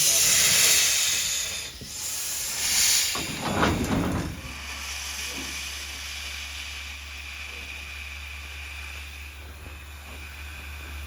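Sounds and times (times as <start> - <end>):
gush of steam: 0.0 - 9.1
steam hissing: 0.0 - 11.0.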